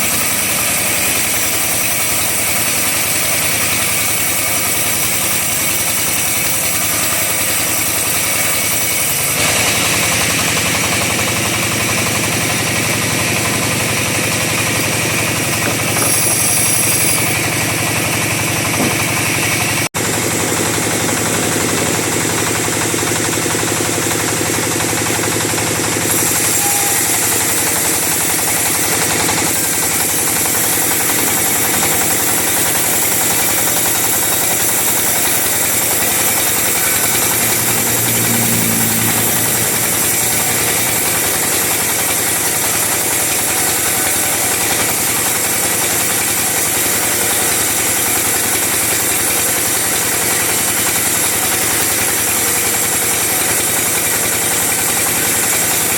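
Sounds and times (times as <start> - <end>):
chainsaw cutting timber: 0.0 - 55.9.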